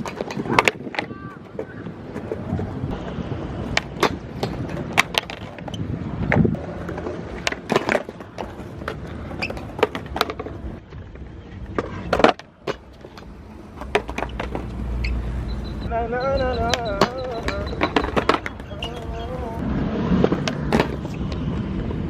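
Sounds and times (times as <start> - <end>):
skateboard clacking on ground: 0.0 - 15.2, 16.4 - 19.6, 20.2 - 22.0
skateboard wheels rolling: 0.0 - 22.0.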